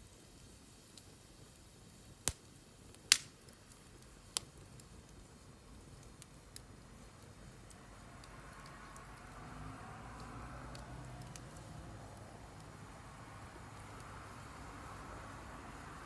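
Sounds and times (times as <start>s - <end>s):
low steady hiss: 0.0s - 16.0s
wood fire crackling and popping: 0.0s - 16.0s.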